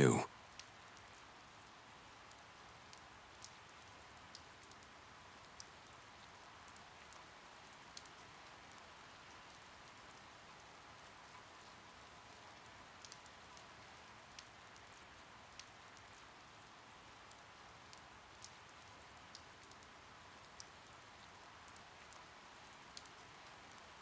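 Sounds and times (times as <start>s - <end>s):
faint rain: 0.0s - 24.0s.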